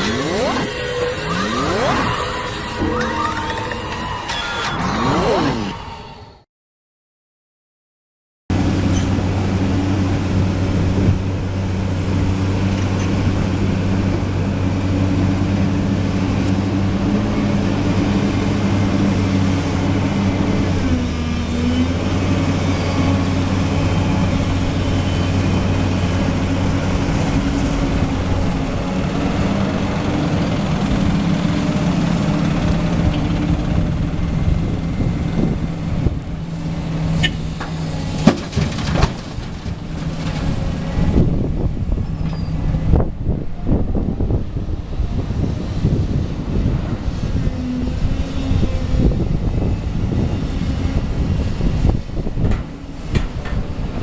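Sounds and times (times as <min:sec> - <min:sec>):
heavy diesel engine running: 0:08.5 - 0:54.0.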